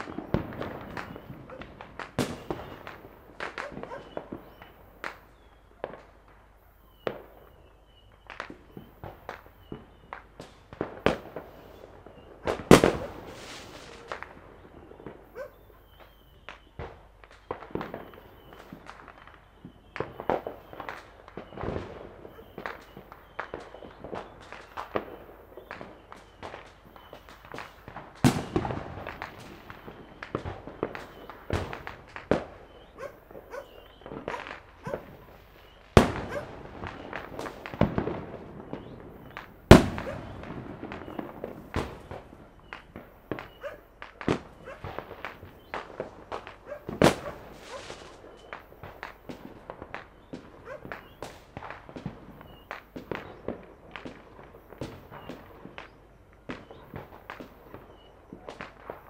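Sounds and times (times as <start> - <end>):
fireworks popping and banging: 0.0 - 59.0.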